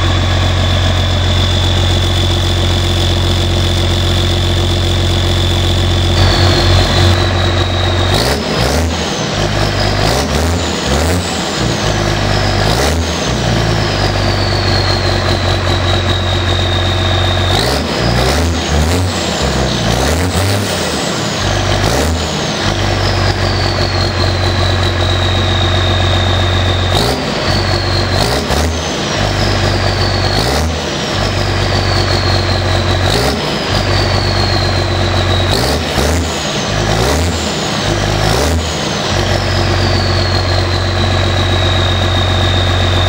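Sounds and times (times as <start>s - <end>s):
tractor diesel engine revving: 0.0s - 43.0s
turbo whistle winding down: 0.0s - 43.0s.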